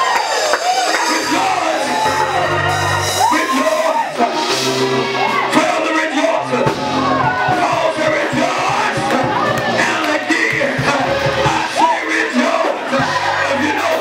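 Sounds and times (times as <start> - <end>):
gospel music chords: 0.0 - 14.0
voices singing and calling: 0.8 - 14.0.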